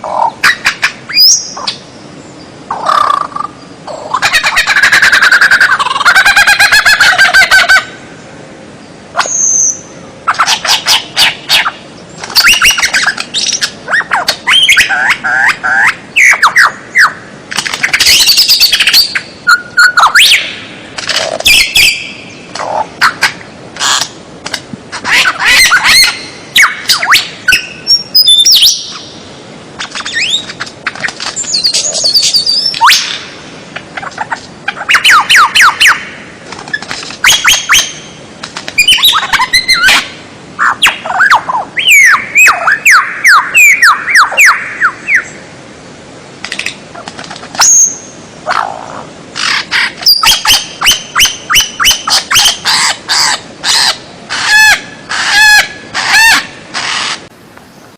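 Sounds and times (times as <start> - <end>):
songbird calls and trills: 0.0 - 24.2, 25.0 - 45.5, 46.4 - 57.9.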